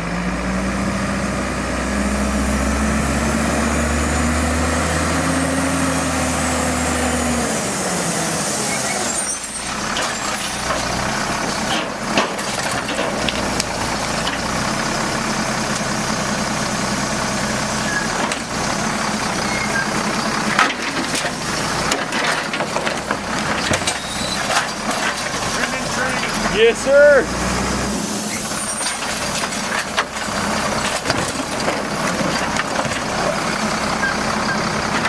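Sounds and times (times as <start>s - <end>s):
garbage truck running: 0.0s - 35.0s.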